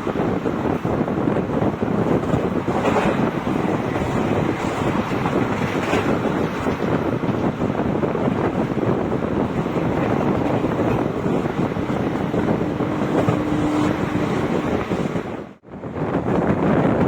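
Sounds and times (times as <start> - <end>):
train rumbling on track: 0.0 - 17.0
wind rushing past microphone: 0.0 - 17.0.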